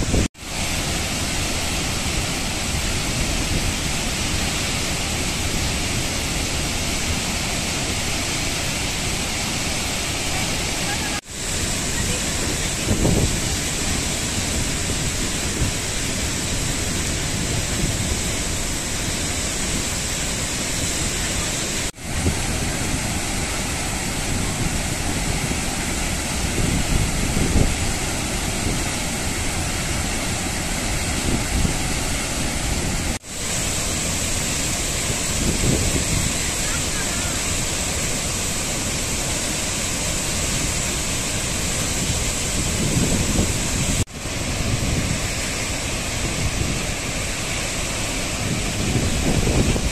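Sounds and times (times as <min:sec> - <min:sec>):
waterfall roaring: 0:00.0 - 0:49.9.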